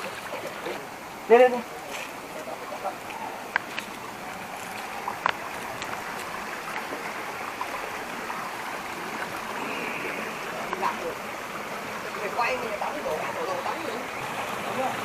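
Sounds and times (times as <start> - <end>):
stream water over rocks: 0.0 - 15.0.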